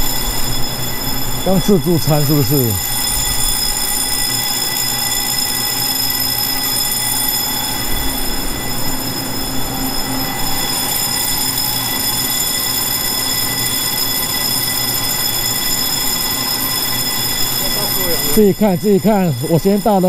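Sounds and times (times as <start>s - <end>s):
train equipment hum and whine: 0.0s - 20.0s.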